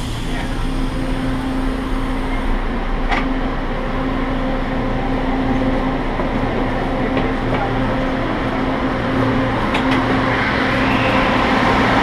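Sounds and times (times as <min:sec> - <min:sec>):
train car hum and rumble: 0:00.0 - 0:12.0.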